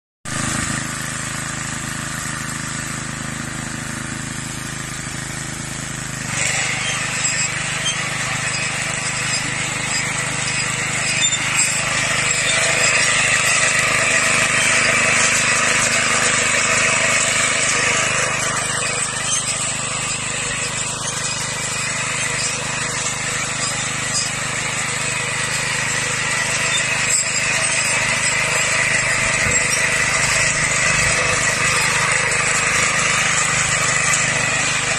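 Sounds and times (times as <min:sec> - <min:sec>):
small tiller engine running: 0:00.3 - 0:34.9.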